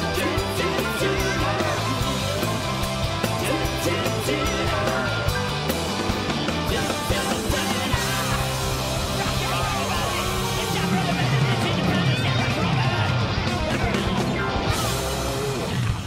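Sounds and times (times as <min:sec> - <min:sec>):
person singing: 0:00.0 - 0:05.5, 0:06.7 - 0:15.6
electric bass line: 0:00.0 - 0:16.0
live rock band playing: 0:00.0 - 0:16.0.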